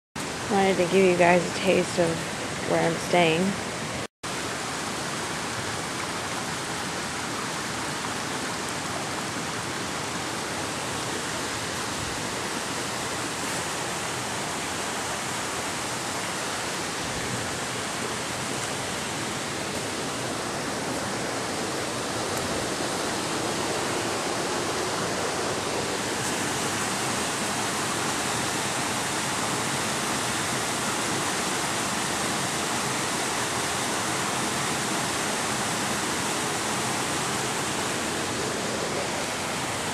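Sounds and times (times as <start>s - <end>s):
stream rushing over stones: 0.2s - 39.9s.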